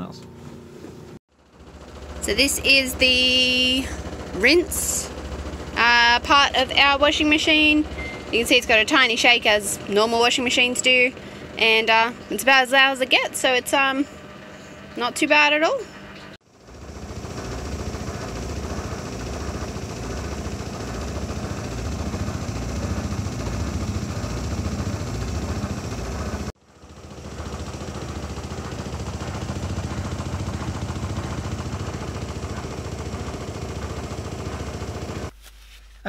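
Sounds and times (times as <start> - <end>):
washing machine running: 0.4 - 35.3.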